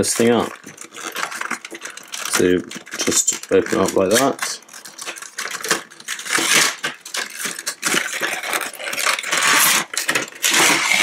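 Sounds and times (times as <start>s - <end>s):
small clicks and rustles: 0.0s - 11.0s.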